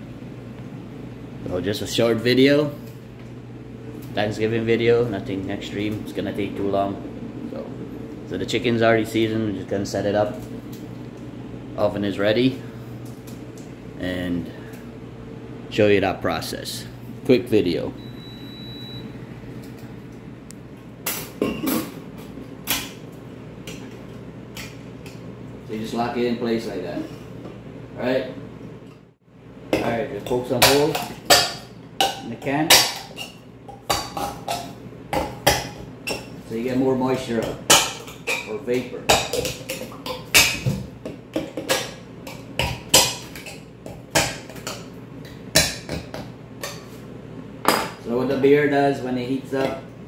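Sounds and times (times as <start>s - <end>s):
low kitchen hum: 0.0s - 50.0s.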